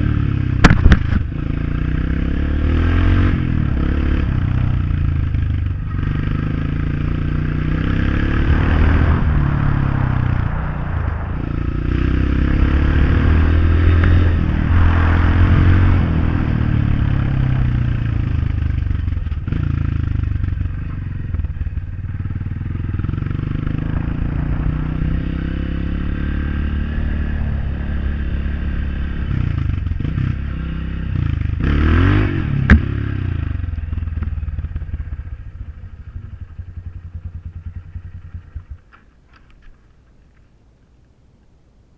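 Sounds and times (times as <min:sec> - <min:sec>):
motorcycle engine running: 0:00.0 - 0:39.4.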